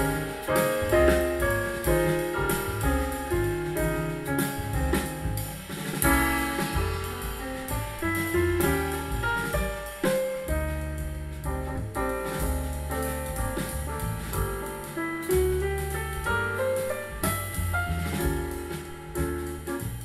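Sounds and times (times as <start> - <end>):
jazz with piano and drums: 0.0 - 20.0.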